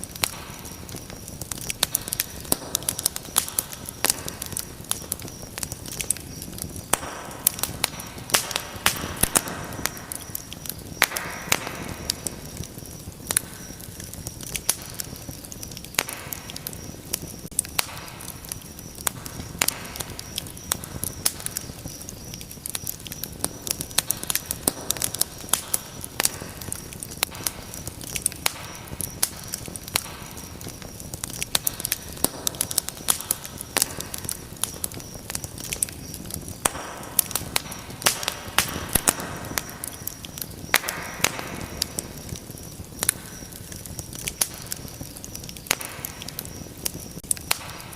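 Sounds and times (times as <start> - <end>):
low rush of flames: 0.0 - 47.9
wood fire crackling and popping: 0.0 - 47.9.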